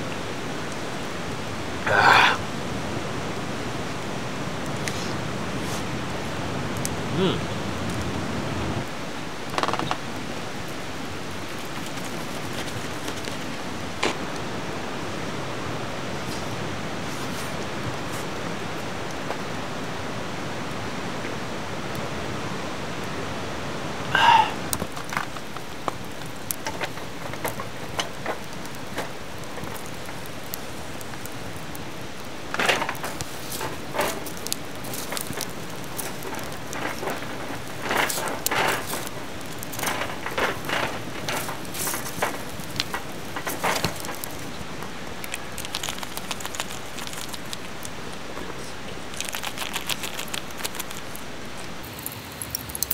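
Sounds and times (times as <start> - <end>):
charcoal fire crackling and popping: 0.0 - 52.9.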